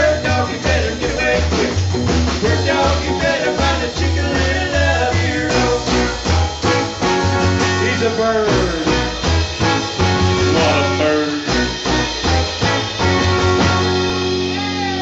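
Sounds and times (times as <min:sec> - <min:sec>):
electric guitar bending notes: 0:00.0 - 0:15.0
live country band playing: 0:00.0 - 0:15.0.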